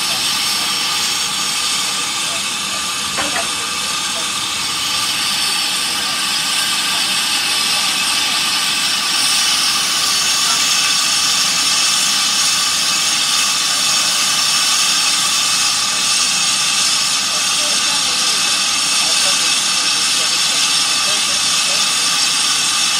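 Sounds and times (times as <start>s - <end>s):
steam locomotive hissing: 0.0s - 22.9s.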